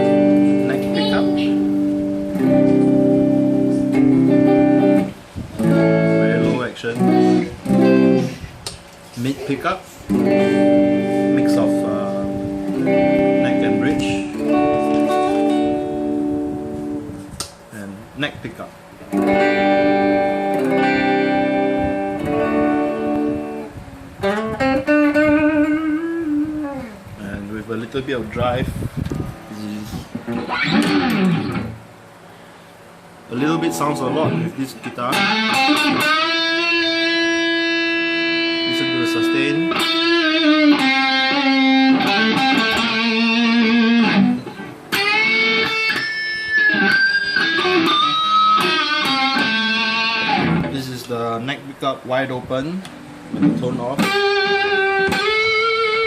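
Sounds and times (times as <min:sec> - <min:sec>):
clean electric guitar: 0:00.0 - 0:17.7, 0:18.8 - 0:51.3, 0:52.4 - 0:56.0.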